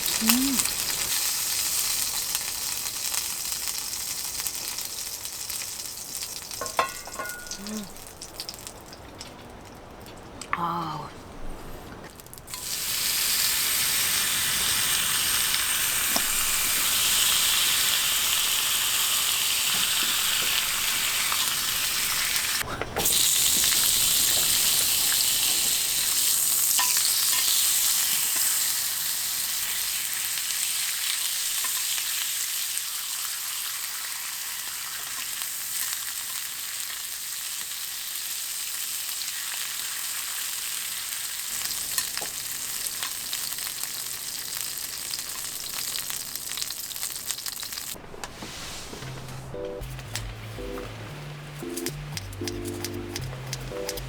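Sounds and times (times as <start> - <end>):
food sizzling in a pan: 0.0 - 8.9, 12.5 - 48.0.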